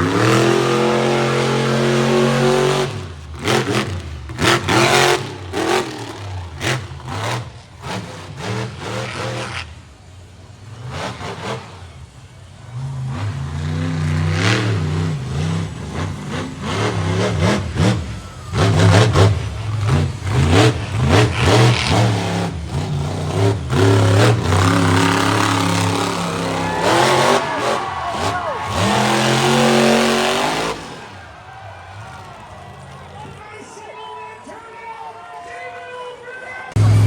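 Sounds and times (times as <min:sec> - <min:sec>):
monster truck engine revving: 0:00.0 - 0:33.4, 0:36.8 - 0:37.0.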